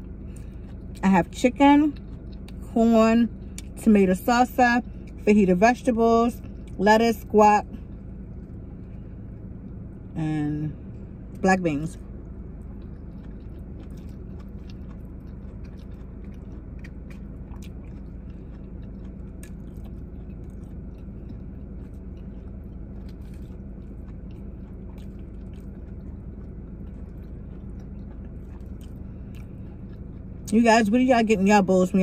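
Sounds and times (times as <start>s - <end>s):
chewing and biting food: 0.0s - 10.2s, 10.8s - 31.2s
steady low hum: 0.0s - 32.0s.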